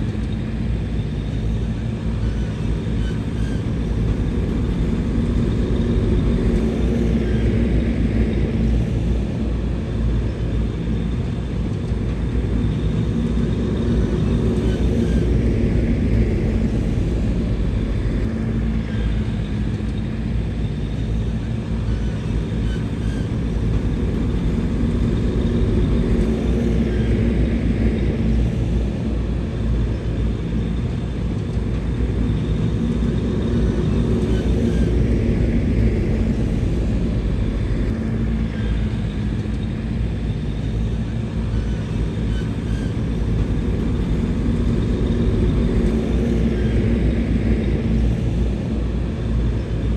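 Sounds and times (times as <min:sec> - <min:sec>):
bulldozer diesel engine running: 0:00.4 - 0:49.9.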